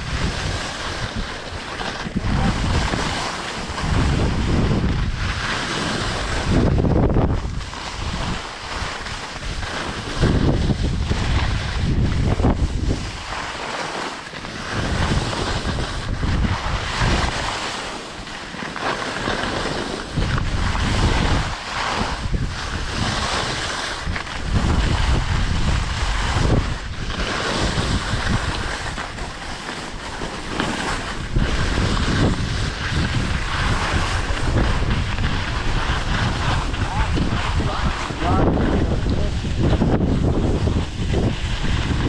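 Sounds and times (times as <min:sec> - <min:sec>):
wind buffeting microphone: 0:00.0 - 0:13.7, 0:14.4 - 0:42.0
skis sliding on snow: 0:00.0 - 0:42.0.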